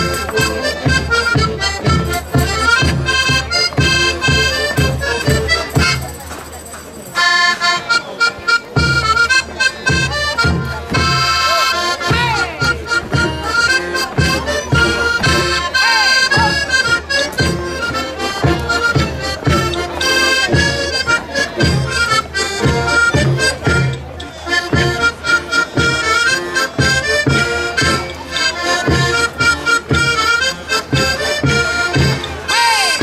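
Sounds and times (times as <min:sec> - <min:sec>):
accordion folk dance tune: 0:00.0 - 0:33.0.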